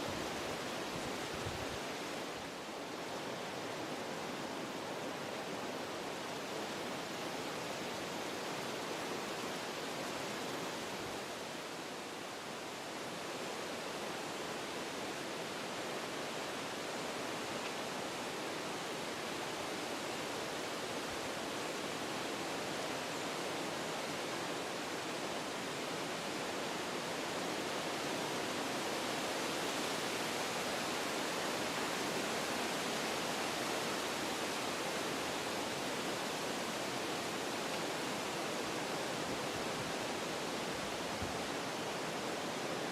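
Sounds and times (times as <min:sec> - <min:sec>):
wind through forest trees: 0:00.0 - 0:42.9.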